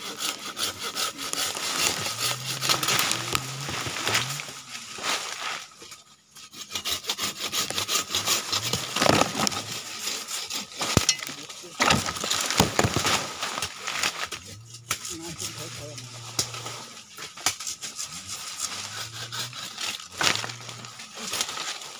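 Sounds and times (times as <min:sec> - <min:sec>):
hand saw rasping through branch: 0:00.0 - 0:21.9.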